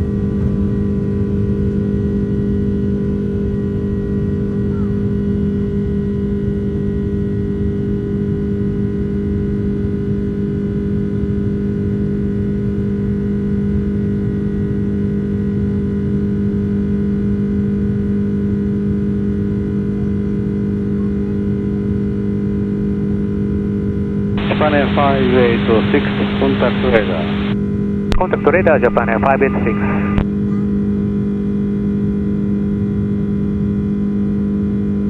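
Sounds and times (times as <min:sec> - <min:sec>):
airplane engine drone: 0:00.0 - 0:35.0.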